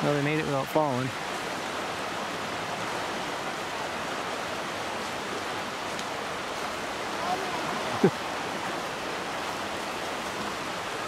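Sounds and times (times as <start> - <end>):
creek water rushing over rapids: 0.0 - 11.0.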